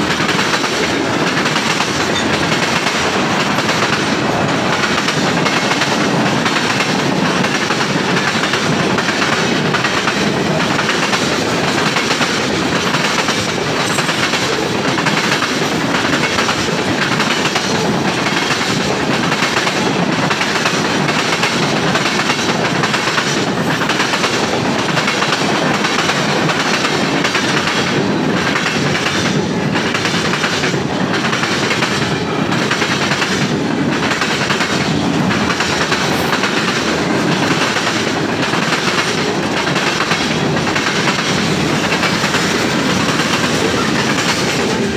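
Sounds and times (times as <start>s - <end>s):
freight train rumbling past: 0.0s - 44.9s
wheels clacking over rail joints: 0.0s - 44.9s.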